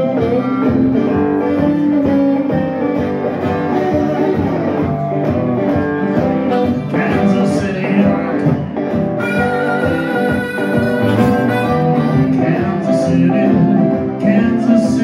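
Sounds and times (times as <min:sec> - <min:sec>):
harmonica: 0:00.0 - 0:05.0, 0:06.1 - 0:14.0
blues band playing: 0:00.0 - 0:15.0.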